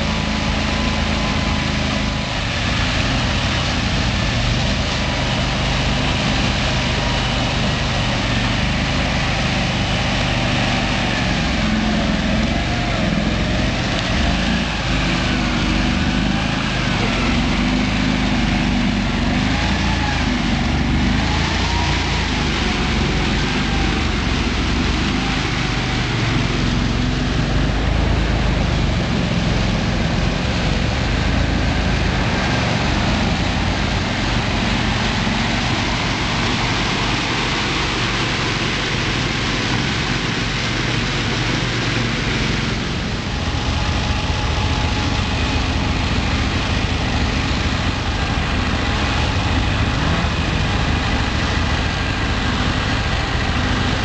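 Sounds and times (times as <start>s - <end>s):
atv engines running: 0.0s - 54.0s.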